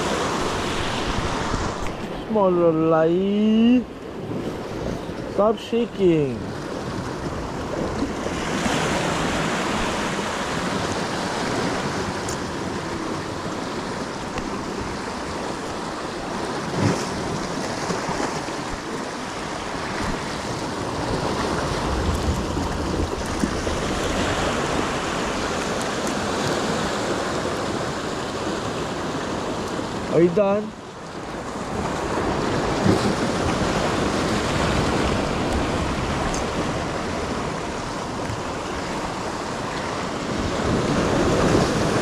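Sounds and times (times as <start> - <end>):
ocean surf washing on shore: 0.0 - 42.0.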